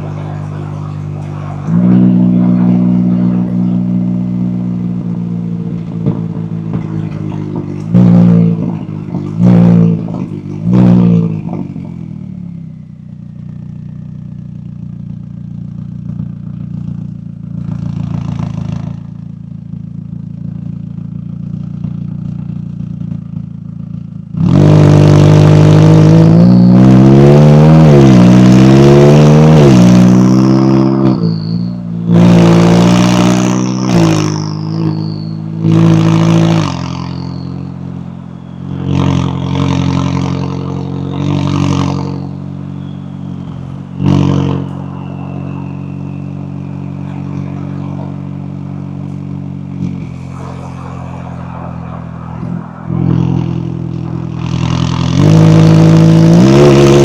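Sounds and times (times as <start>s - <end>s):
car accelerating hard: 0.0s - 57.0s
car exhaust throttle blips: 0.0s - 57.0s.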